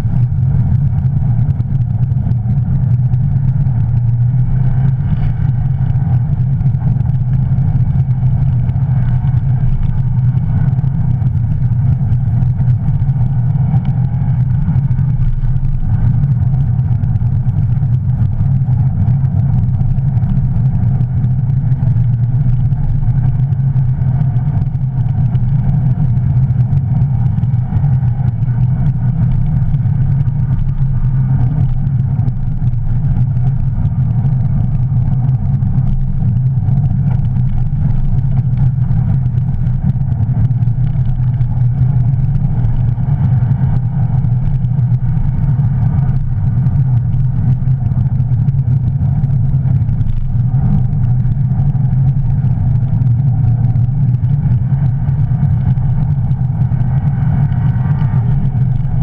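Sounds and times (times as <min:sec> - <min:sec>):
car engine running under load: 0:00.0 - 0:59.0
tyre noise drone: 0:00.0 - 0:59.0.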